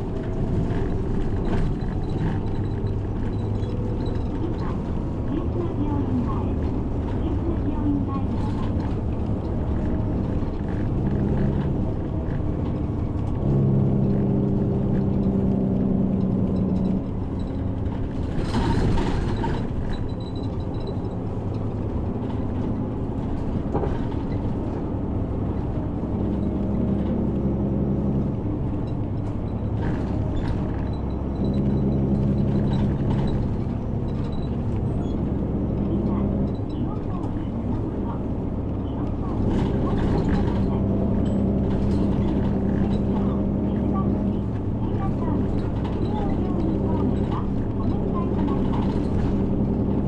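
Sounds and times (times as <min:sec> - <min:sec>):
bus diesel engine running: 0:00.0 - 0:50.0.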